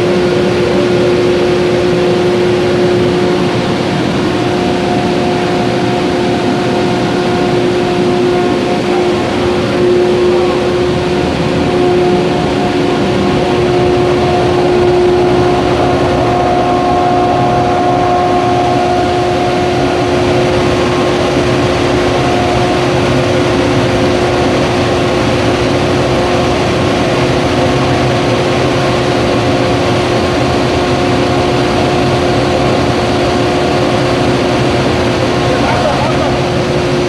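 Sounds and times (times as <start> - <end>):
furnace line machine noise: 0.0 - 37.0
steady machine whine: 0.0 - 37.0.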